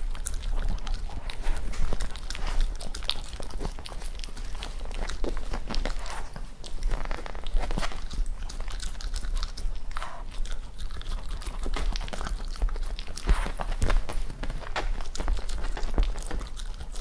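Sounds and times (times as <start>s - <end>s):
dog chewing bones: 0.0s - 17.0s.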